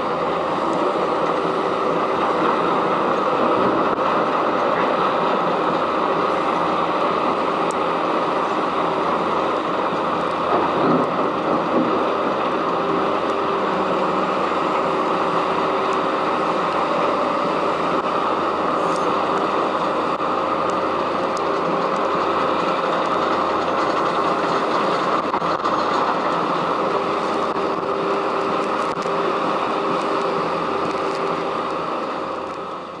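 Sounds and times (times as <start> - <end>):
crusher and excavator running: 0.0 - 33.0.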